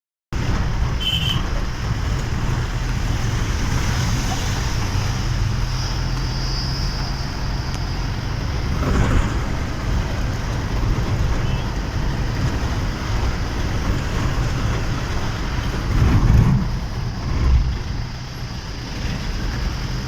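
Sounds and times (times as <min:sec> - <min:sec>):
road noise: 0:00.3 - 0:20.0
vehicle engine hum: 0:00.4 - 0:20.0.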